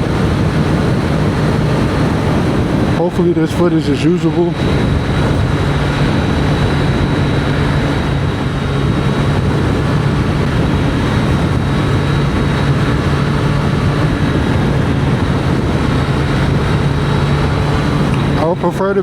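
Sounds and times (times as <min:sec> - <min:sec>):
motorcycle engine hum: 0:00.0 - 0:19.0
wind rush: 0:00.0 - 0:19.0.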